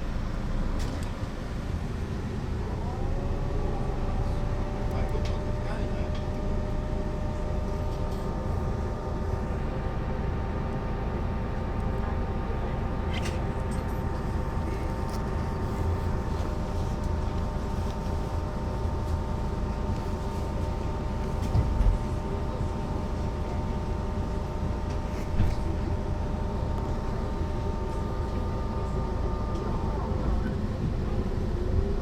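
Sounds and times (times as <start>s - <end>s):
bus engine and road drone: 0.0s - 32.0s.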